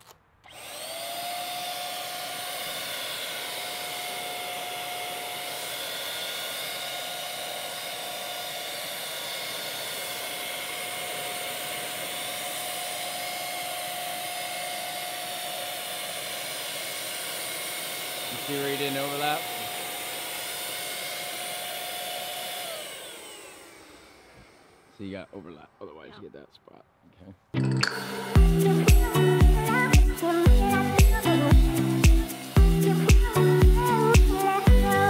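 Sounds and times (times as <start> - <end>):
paint sprayer motor whine: 0.0 - 25.1, 27.8 - 35.0.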